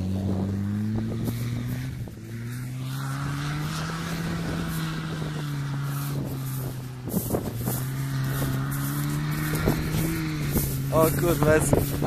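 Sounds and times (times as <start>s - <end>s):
engine revving hard: 0.0s - 12.0s.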